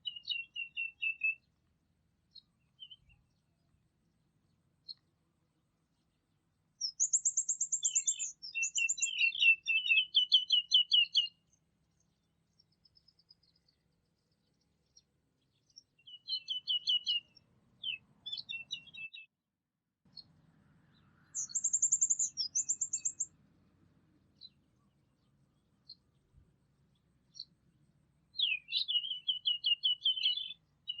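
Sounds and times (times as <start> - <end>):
songbird singing: 0.0 - 19.4, 20.1 - 31.0.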